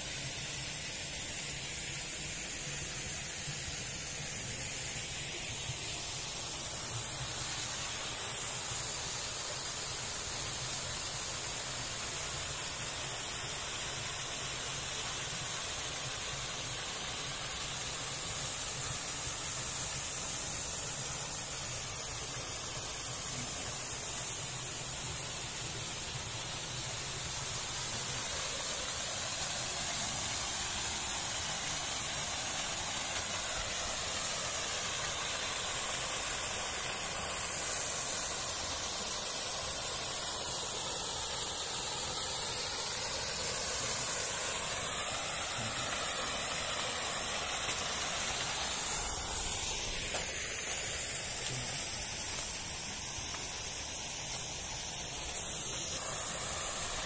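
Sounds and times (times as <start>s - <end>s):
high hiss: 0.0s - 57.0s
waterfall rushing: 4.4s - 57.0s.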